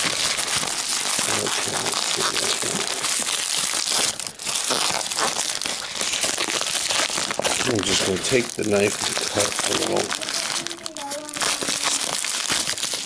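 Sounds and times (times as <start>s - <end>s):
plastic mailer crinkling: 0.0s - 13.0s.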